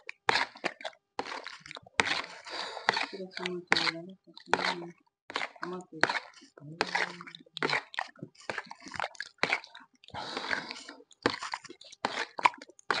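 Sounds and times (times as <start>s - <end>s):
wet chewing and slurping: 0.0s - 13.0s.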